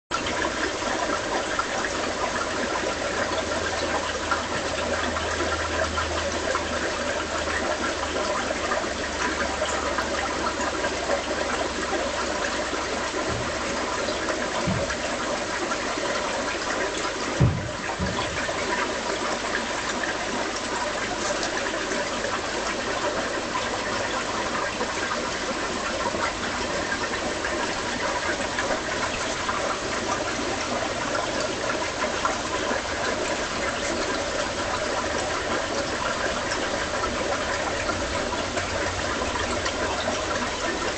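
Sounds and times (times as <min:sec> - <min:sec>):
aquarium filter bubbling: 0:00.1 - 0:40.9.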